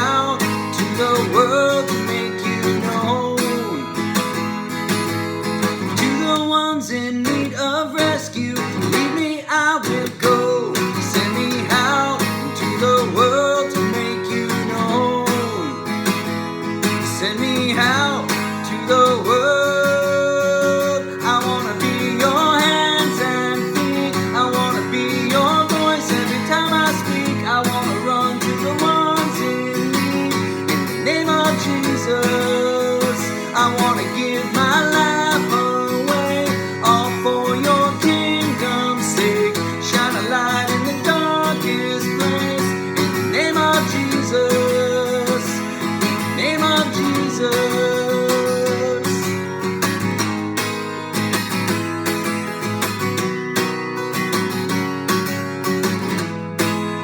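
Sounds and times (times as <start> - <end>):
strummed acoustic guitar: 0.0 - 57.0.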